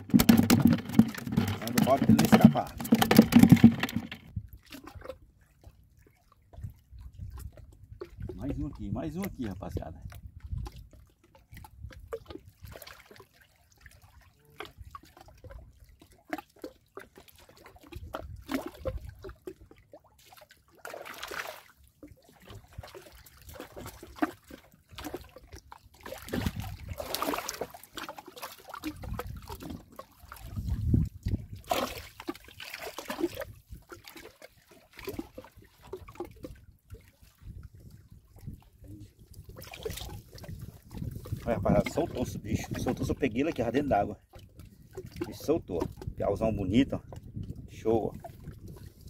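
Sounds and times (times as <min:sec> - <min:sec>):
water sloshing and splashing: 0:00.0 - 0:49.0.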